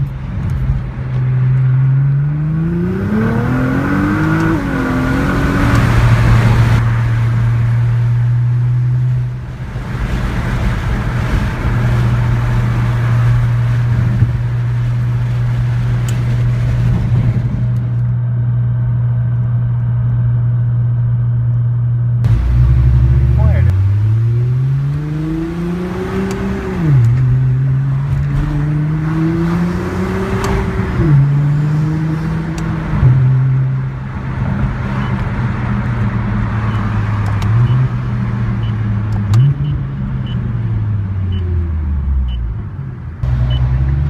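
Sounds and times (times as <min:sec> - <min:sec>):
car engine revving: 0:00.0 - 0:21.5, 0:22.2 - 0:44.0.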